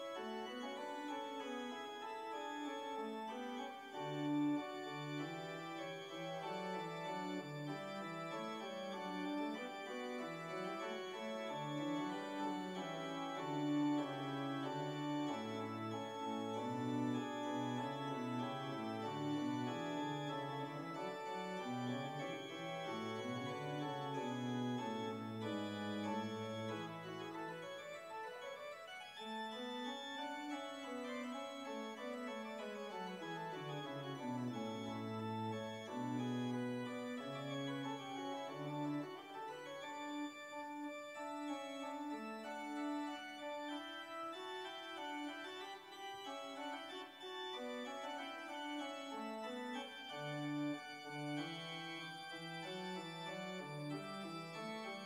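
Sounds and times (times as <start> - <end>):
organ playing chords: 0.0 - 55.0.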